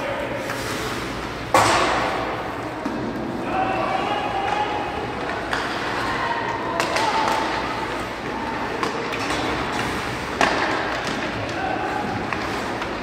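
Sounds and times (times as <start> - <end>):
hockey sticks and puck cracking: 0.0 - 13.0
hubbub of voices: 0.0 - 13.0.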